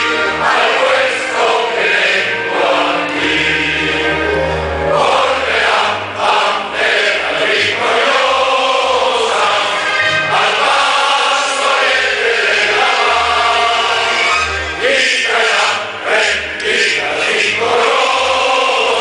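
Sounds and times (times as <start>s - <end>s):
crowd singing in unison: 0.0s - 19.0s.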